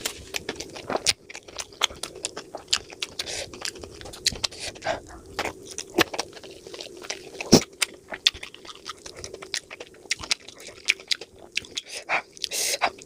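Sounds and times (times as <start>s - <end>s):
mouth chewing food: 0.0s - 13.0s.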